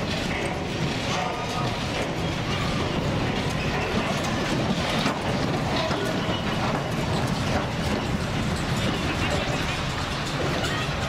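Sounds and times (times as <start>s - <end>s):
noisy background: 0.0s - 11.0s
train cars rattling and clanking: 0.0s - 11.0s.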